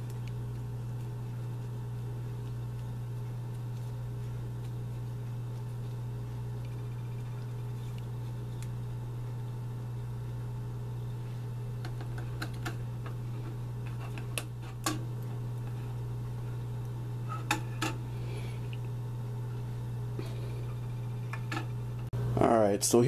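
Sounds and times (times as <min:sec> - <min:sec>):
low hum: 0:00.0 - 0:22.6.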